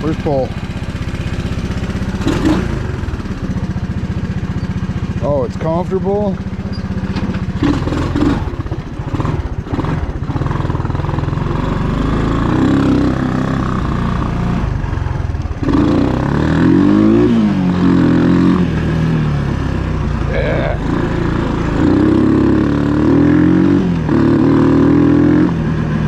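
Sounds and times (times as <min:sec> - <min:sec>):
single-cylinder engine revving: 0:00.0 - 0:26.0.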